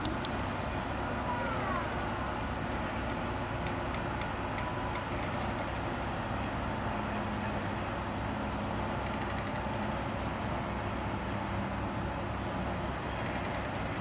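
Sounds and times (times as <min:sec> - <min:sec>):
heavy vehicle engines rumbling: 0:00.0 - 0:14.0.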